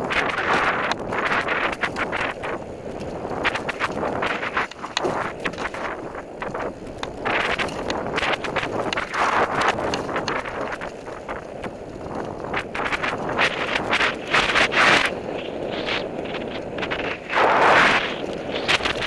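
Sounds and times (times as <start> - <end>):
bike rattling and knocking: 0.0 - 17.2, 18.1 - 19.0
bike tyres on dirt: 0.0 - 19.0
wind rushing over microphone: 0.0 - 19.0.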